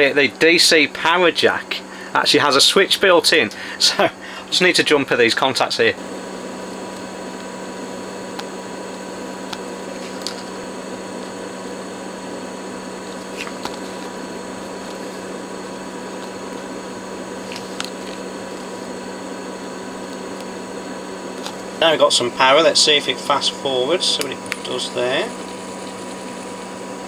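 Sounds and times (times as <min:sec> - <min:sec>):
fan-like hum: 0:00.0 - 0:27.0.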